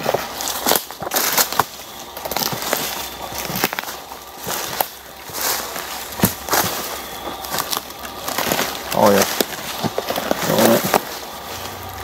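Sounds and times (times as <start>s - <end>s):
footsteps crunching through leaves: 0.0s - 12.0s.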